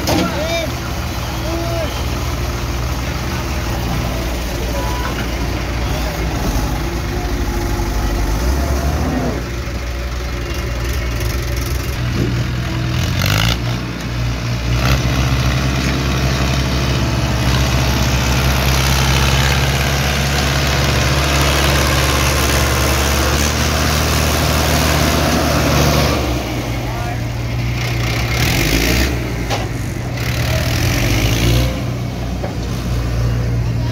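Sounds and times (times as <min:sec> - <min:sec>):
heavy diesel engines running: 0:00.0 - 0:33.9.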